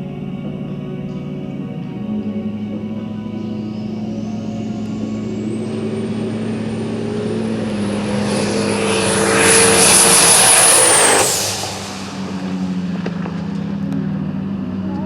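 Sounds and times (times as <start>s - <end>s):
high-pitched whine: 0.0s - 15.0s
truck engine accelerating hard: 0.0s - 15.0s.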